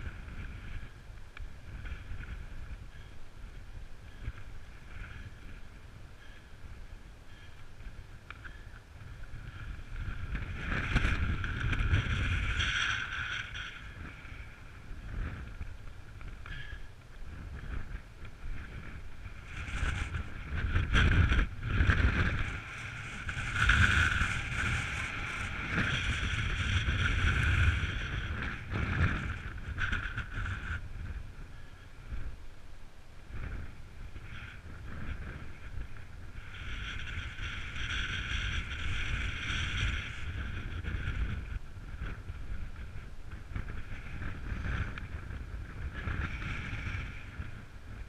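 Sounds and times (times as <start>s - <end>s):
wind buffeting microphone: 0.0s - 32.5s, 33.2s - 48.0s
bike tyres and frame rumbling: 0.0s - 48.0s.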